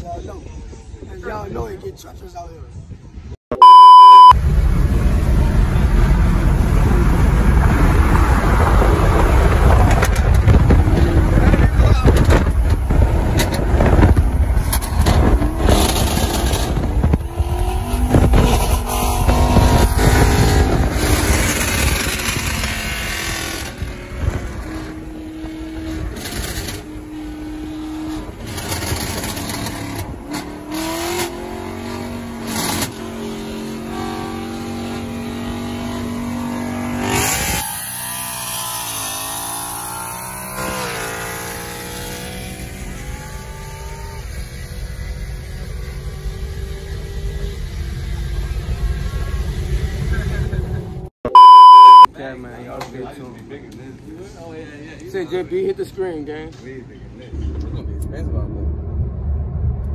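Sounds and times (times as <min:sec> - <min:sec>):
road and wind rumble: 0:00.0 - 0:55.1, 0:56.0 - 0:59.9
car engines accelerating: 0:03.6 - 0:52.1.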